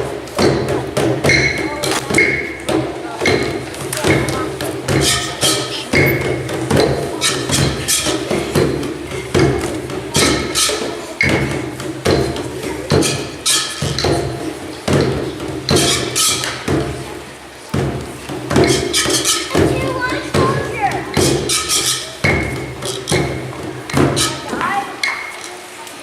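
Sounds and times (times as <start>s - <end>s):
sharp wooden percussion knocks: 0.0s - 25.5s.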